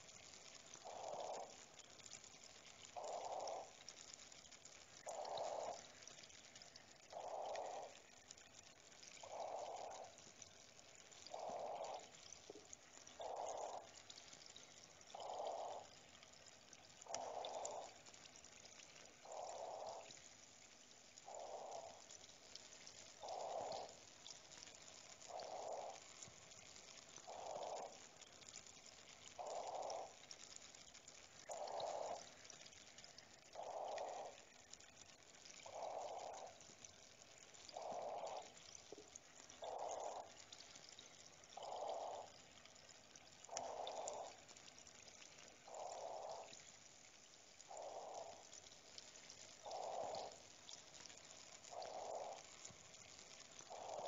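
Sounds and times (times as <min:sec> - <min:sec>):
water dripping: 0:00.0 - 0:54.0.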